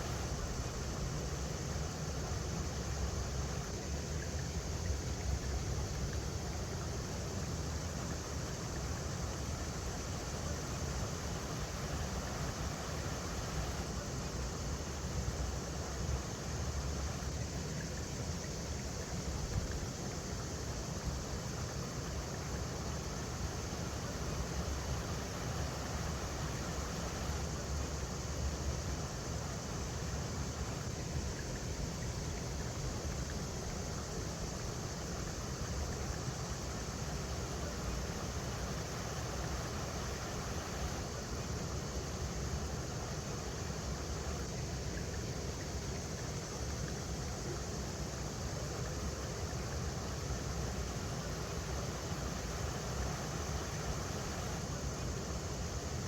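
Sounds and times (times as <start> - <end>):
river water running over rocks: 0.0 - 56.0.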